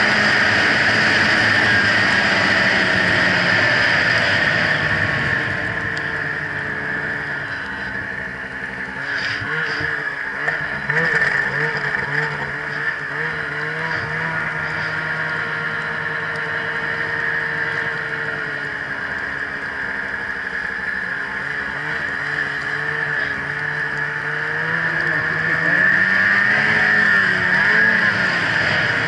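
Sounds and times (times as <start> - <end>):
constant high whine: 0.0 - 29.0
snowmobile engine: 0.0 - 29.0.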